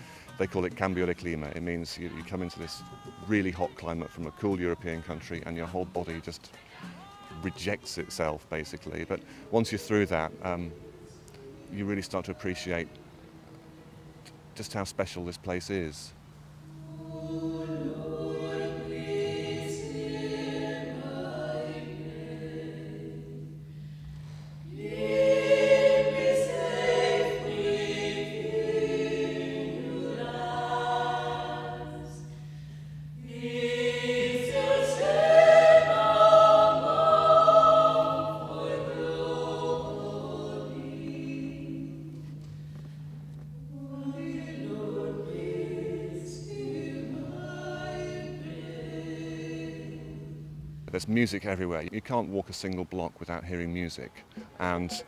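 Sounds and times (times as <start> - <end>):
choir singing unaccompanied: 0.0 - 42.6, 43.4 - 52.4, 53.6 - 55.0
steady low hum: 0.0 - 55.0.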